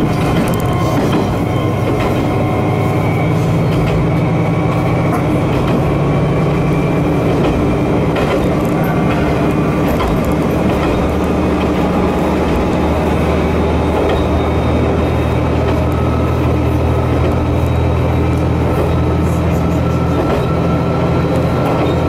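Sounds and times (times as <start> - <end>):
high wheel squeal: 0.0 - 7.3, 8.4 - 22.0
diesel railcar engine drone: 0.0 - 22.0
wheel and rail noise: 0.0 - 22.0.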